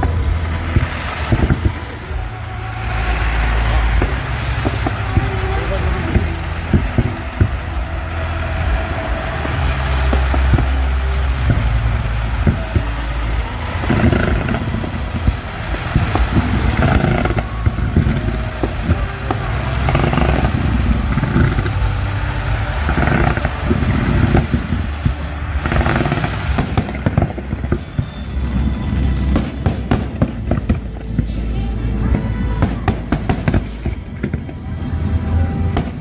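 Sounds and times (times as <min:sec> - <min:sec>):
fireworks crackling: 0:00.0 - 0:36.0
low rumble: 0:00.0 - 0:36.0.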